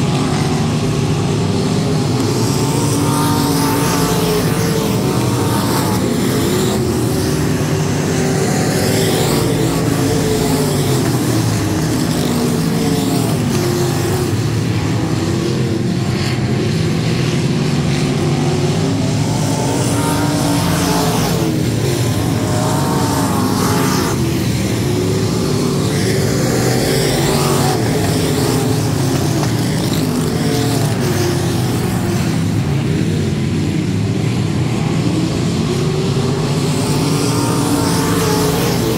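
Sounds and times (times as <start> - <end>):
race car engines running hard: 0.0 - 38.9.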